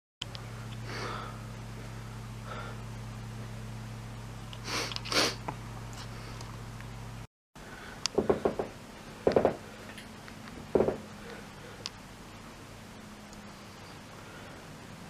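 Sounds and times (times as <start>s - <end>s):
steady low hum: 0.2s - 15.0s.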